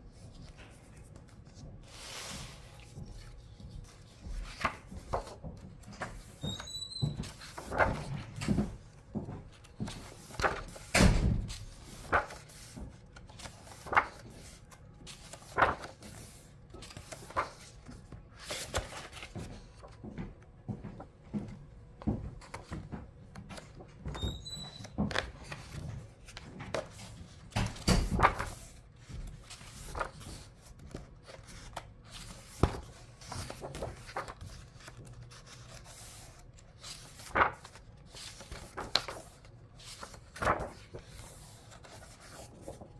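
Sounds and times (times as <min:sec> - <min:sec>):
book pages turning: 0:00.1 - 0:42.9.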